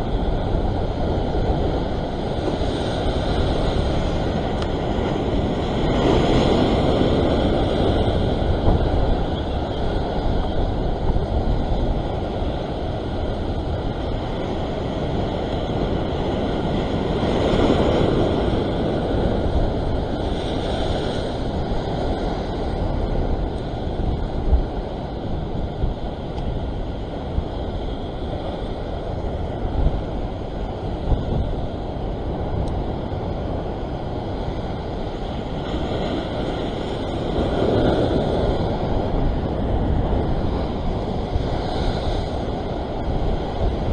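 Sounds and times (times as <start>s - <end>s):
surf breaking over rocks: 0.0s - 43.9s
wind buffeting microphone: 0.0s - 43.9s.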